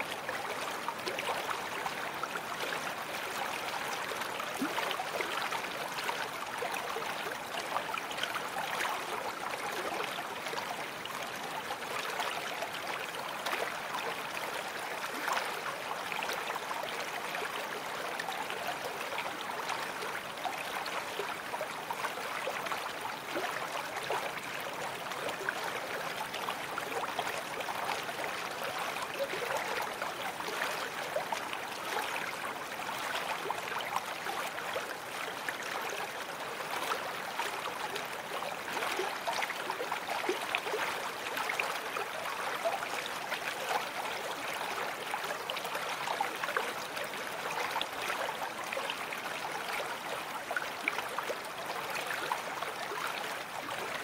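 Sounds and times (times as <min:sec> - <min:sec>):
babbling brook: 0:00.0 - 0:54.0.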